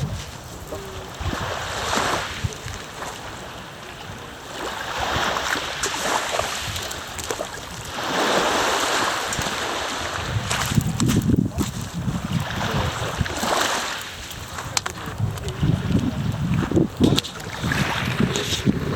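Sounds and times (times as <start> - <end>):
lake waves lapping: 0.0 - 18.9
wind rumbling on microphone: 0.0 - 18.9.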